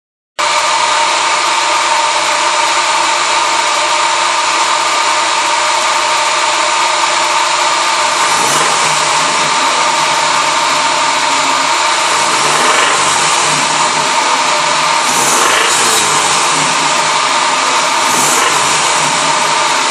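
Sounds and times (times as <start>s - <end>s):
engine running with knock: 0.4s - 19.9s.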